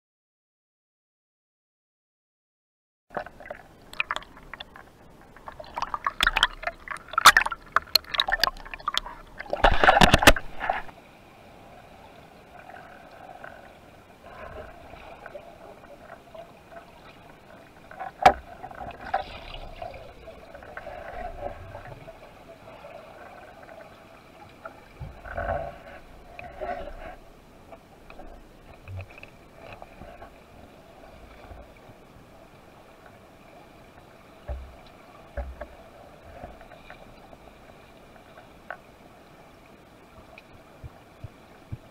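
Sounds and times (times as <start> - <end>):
water splashing and bubbling: 3.1 - 41.9.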